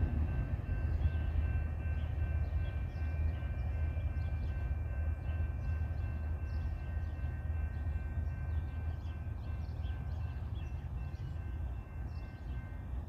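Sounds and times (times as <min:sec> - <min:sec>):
distant freight train rumbling: 0:00.0 - 0:13.0.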